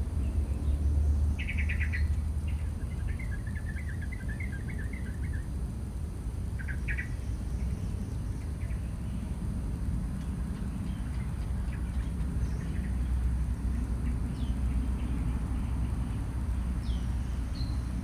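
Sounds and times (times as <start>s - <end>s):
steady low rumble: 0.0s - 18.0s
small bird chirping: 0.2s - 5.6s, 6.5s - 9.4s, 10.1s - 18.0s.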